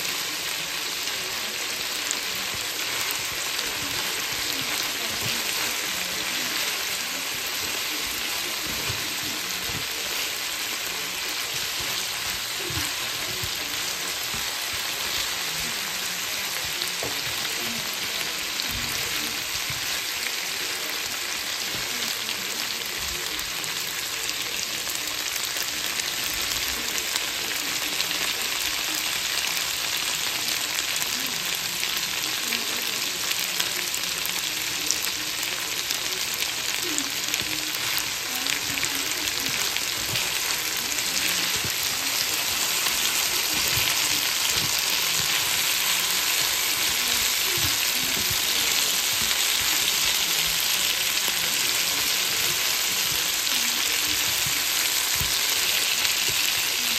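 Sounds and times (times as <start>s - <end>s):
spatula stirring food: 0.0s - 32.5s, 33.2s - 56.9s
potatoes and onions sizzling: 0.0s - 56.9s.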